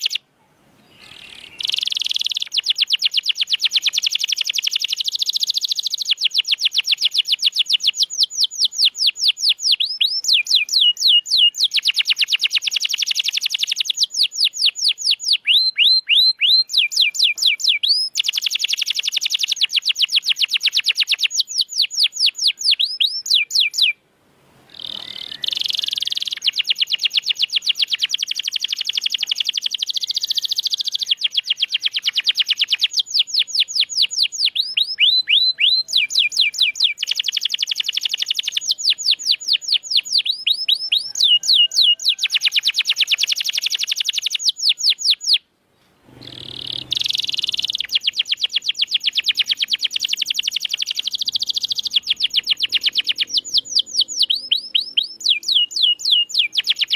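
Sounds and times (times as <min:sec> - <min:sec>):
canary singing: 0:00.0 - 0:24.0, 0:24.7 - 0:45.5, 0:46.2 - 0:56.9.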